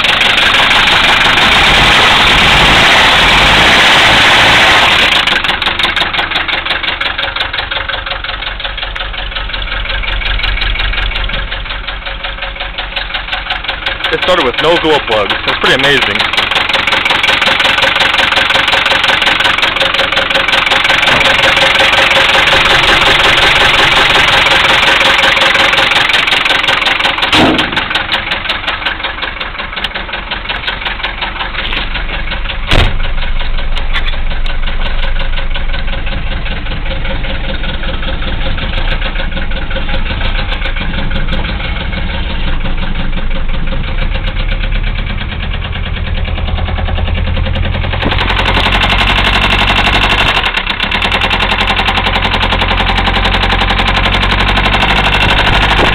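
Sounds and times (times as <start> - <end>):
diesel engine with rod knock: 0.0 - 55.9.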